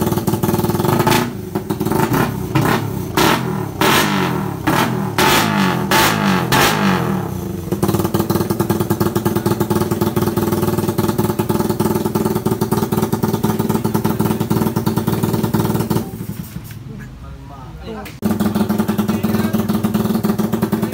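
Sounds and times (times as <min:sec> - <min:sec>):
motorcycle engine revving and idling: 0:00.0 - 0:16.8, 0:18.2 - 0:20.9.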